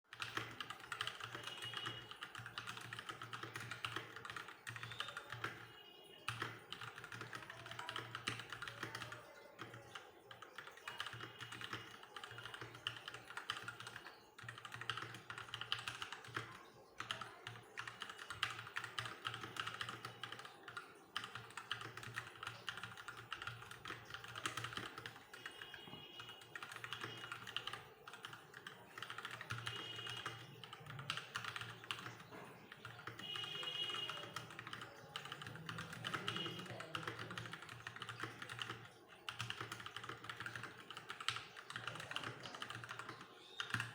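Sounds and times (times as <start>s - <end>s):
fast mechanical keyboard typing: 0.1s - 43.9s.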